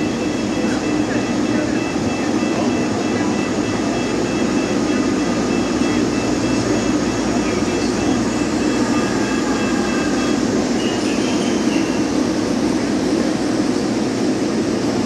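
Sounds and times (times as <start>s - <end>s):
tram humming and rumbling: 0.0s - 15.0s.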